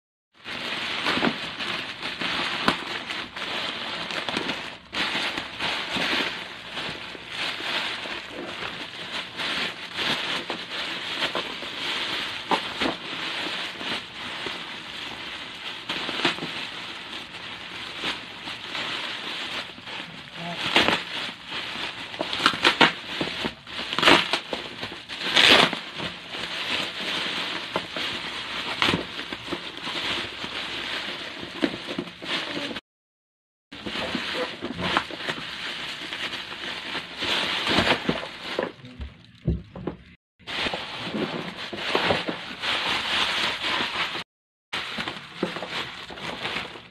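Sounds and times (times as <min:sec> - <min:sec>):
plastic packaging crinkling: 0:00.4 - 0:32.8, 0:33.7 - 0:44.2, 0:44.8 - 0:46.9.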